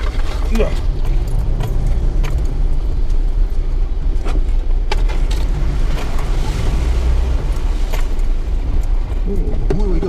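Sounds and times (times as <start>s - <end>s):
knocks and rattles over bumps: 0.0s - 10.0s
low engine rumble: 0.0s - 10.0s.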